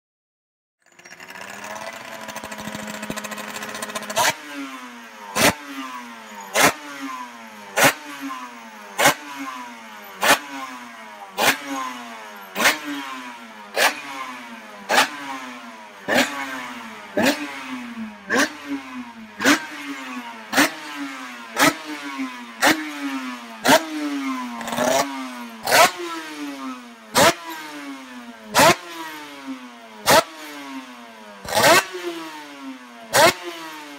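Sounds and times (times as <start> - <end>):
race engine revving: 1.2 - 33.9.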